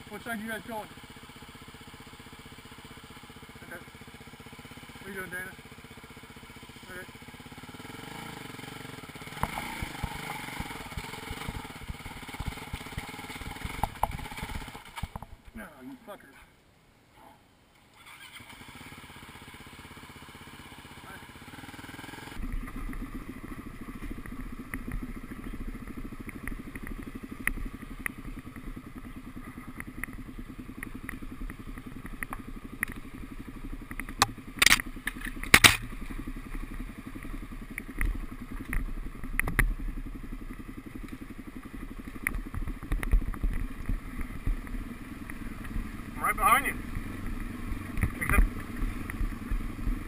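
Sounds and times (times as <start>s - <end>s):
motorcycle engine running: 0.0s - 15.9s, 18.0s - 50.0s.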